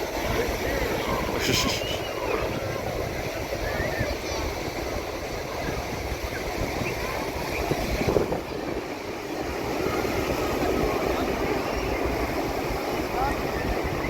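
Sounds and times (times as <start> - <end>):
faint voices: 0.0 - 14.0
surf on the shore: 0.0 - 14.0
wind on microphone: 0.0 - 14.0.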